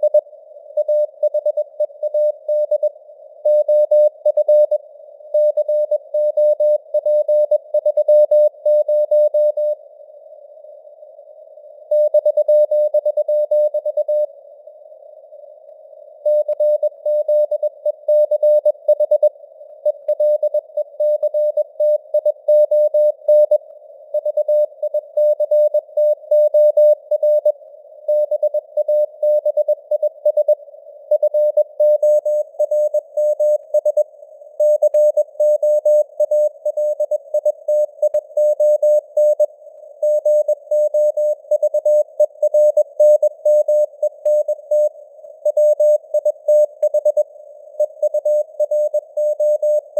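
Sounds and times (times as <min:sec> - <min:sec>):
receiver noise hiss: 0:00.0 - 0:49.9.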